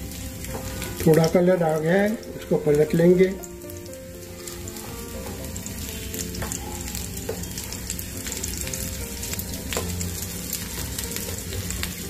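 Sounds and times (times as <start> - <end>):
food sizzling in hot fat: 0.0 - 12.0.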